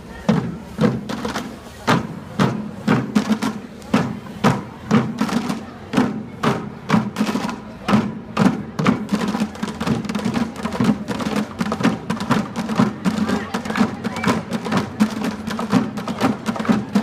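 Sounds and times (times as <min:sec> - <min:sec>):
drum music with steady beat: 0:00.3 - 0:17.0.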